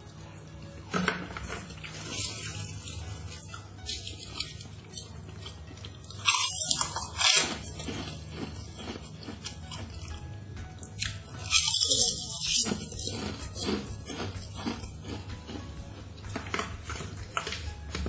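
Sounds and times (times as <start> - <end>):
quiet background music: 0.0 - 18.0
person chewing food: 1.7 - 18.0.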